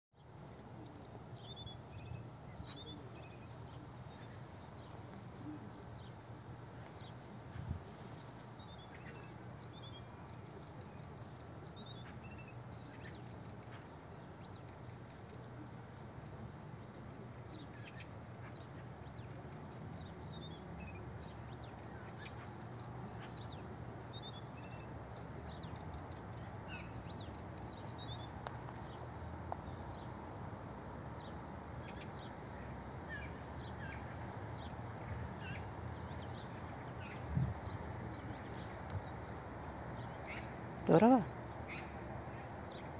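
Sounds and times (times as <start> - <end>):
songbird chirping: 0.2 - 42.9.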